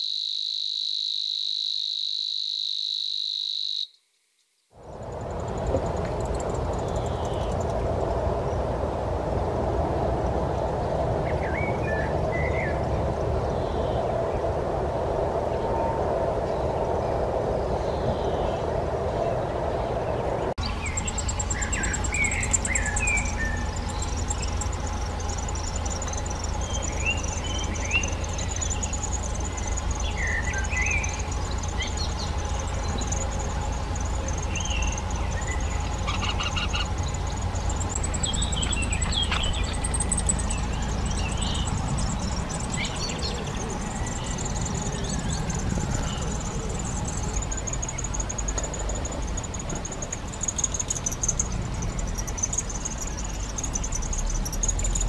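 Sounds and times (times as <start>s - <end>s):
low rumble: 4.8s - 50.4s
birds chirping: 4.8s - 55.0s.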